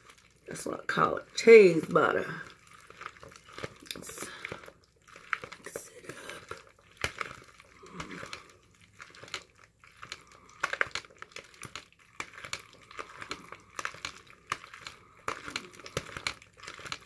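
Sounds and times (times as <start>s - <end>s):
sticky wet stirring in a pot: 0.0s - 17.0s
spoon clicks and scrapes: 2.4s - 17.0s.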